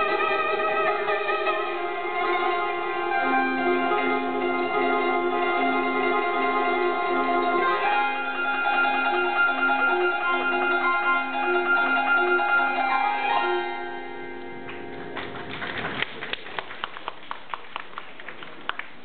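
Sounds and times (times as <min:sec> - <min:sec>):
zither melody: 0:00.0 - 0:15.6.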